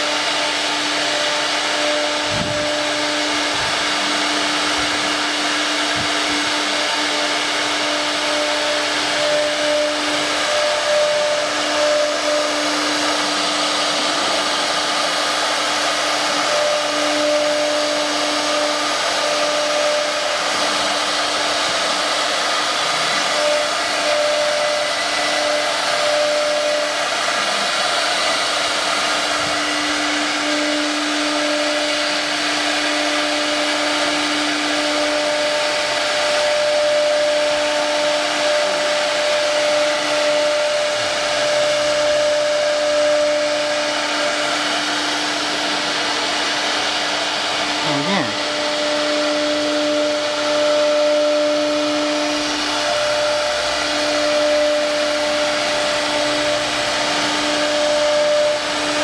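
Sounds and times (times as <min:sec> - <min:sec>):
router spindle whirring while cutting wood: 0:00.0 - 0:59.0.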